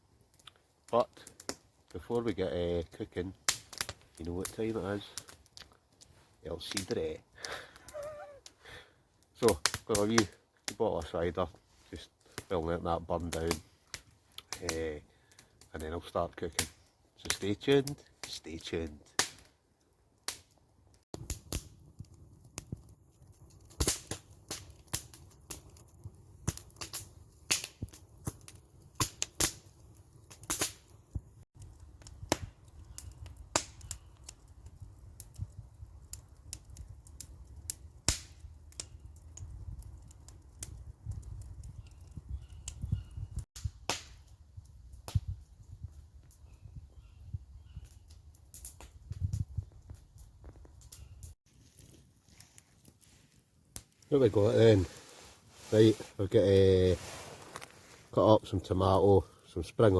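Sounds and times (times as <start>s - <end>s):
campfire crackling and popping: 0.0s - 59.9s
fire low rumble: 0.0s - 59.9s.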